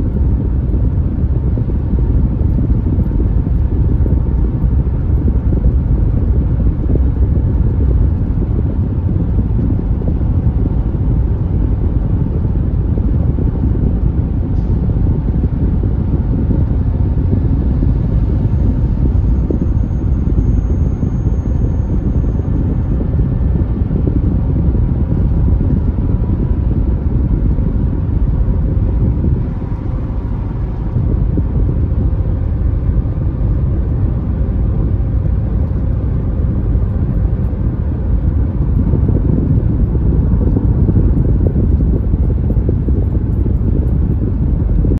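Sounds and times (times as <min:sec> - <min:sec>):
car interior road rumble: 0:00.0 - 0:44.9.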